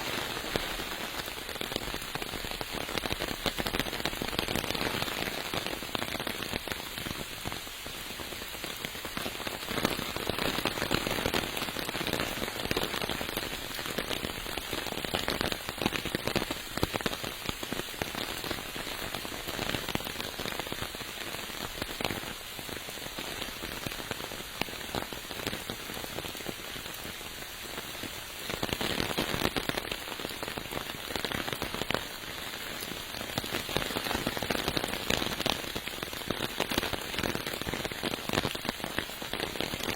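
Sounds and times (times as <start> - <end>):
raindrops crackling on surfaces: 0.0 - 39.9
steady rain: 0.0 - 39.9.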